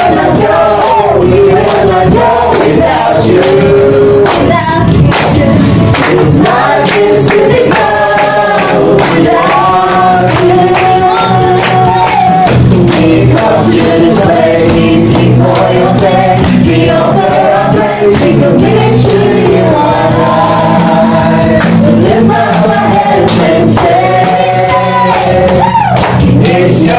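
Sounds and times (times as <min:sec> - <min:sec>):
group singing: 0:00.0 - 0:26.9
hands clapping: 0:00.0 - 0:26.9
karaoke backing track: 0:00.0 - 0:26.9.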